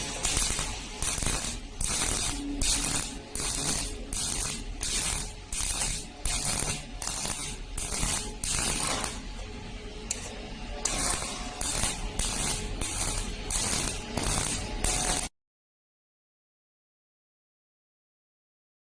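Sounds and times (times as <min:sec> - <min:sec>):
welding arc crackling: 0:00.0 - 0:15.3.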